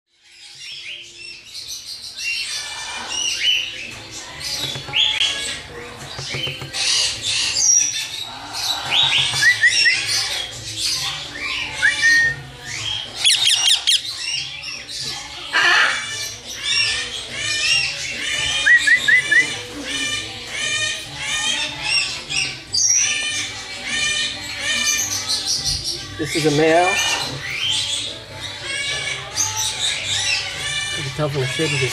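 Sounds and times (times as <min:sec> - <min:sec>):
parrots squawking and chirping: 0:00.2 - 0:31.9.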